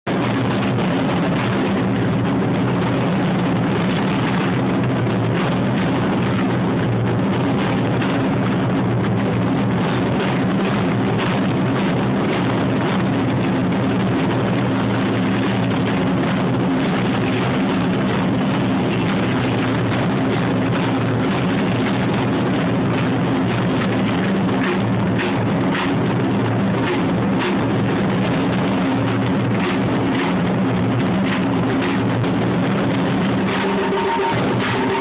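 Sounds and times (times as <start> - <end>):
drums beaten in fast roll: 0.0 - 35.0.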